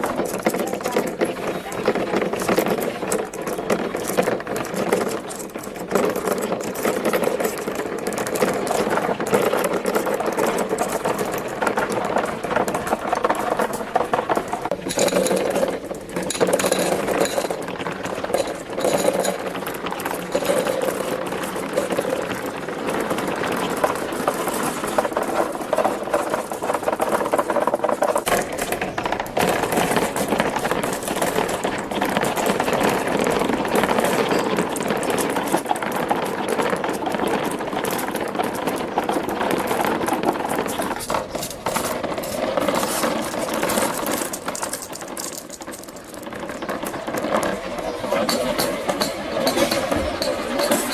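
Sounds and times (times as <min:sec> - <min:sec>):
marbles clattering on plastic tracks: 0:00.0 - 0:50.9.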